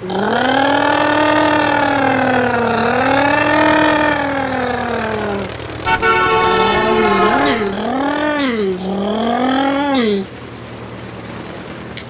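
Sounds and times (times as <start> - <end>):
person voicing long wavering tones: 0.0 - 10.3.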